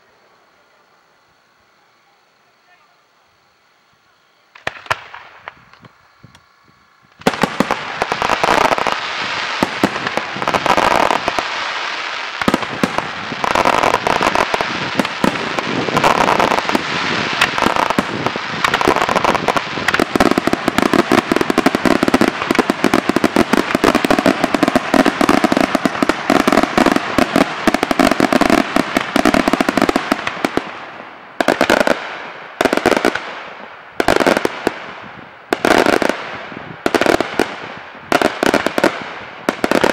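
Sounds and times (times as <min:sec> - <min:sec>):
fireworks bangs and crackling: 0:04.5 - 0:39.9.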